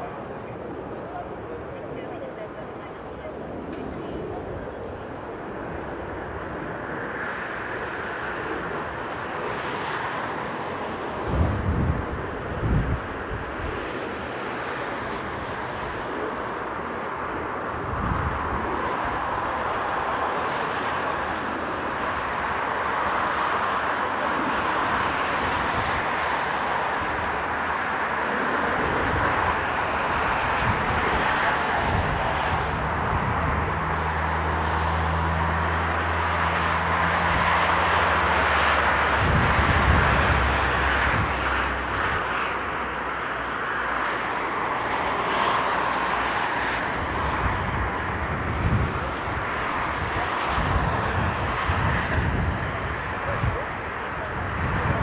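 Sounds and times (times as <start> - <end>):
jet engines rushing whine: 0.0 - 55.0.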